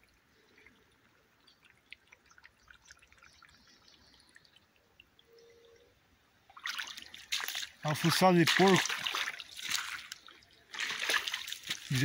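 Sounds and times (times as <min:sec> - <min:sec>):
creek trickling and dripping: 0:00.0 - 0:12.0.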